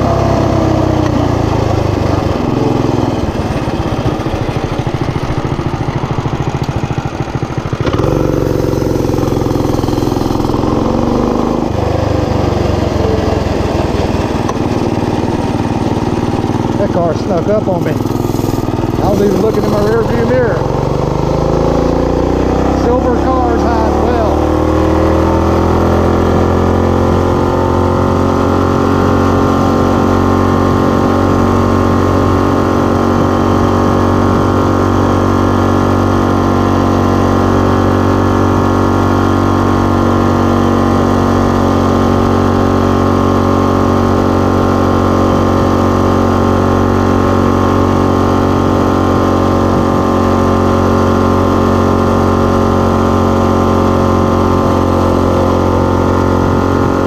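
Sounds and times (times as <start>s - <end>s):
mini bike engine running: 0.0s - 57.0s.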